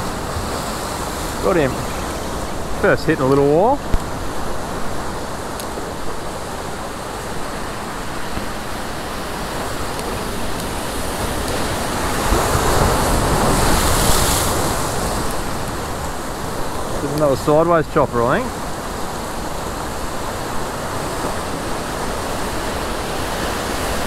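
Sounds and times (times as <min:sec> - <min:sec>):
ocean surf washing around rocks: 0:00.0 - 0:24.0.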